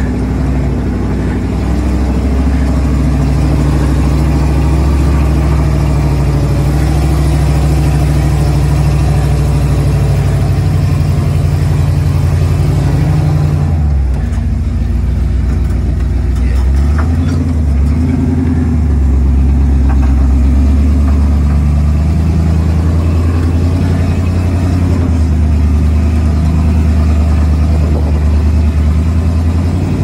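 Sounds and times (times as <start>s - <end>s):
engine pulling under load: 0.0s - 30.0s.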